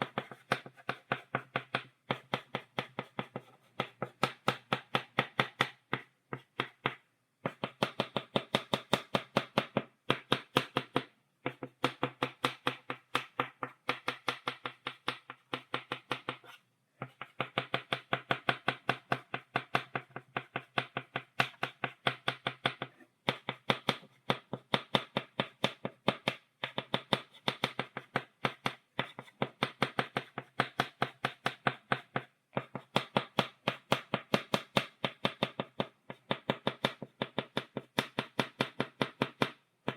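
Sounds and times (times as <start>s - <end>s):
chalk tapping on blackboard: 0.0s - 39.9s.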